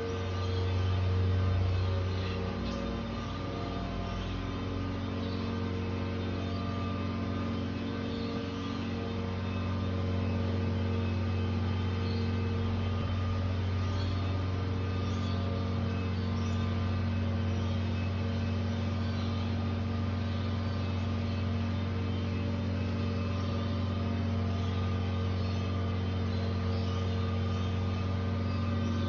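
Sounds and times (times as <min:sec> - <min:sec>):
low mechanical drone: 0:00.0 - 0:29.0.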